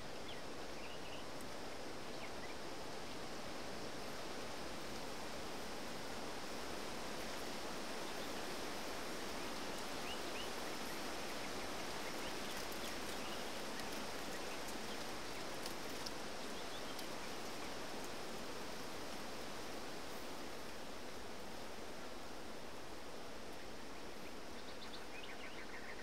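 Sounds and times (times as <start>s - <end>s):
outdoor ambient hiss: 0.0s - 26.0s.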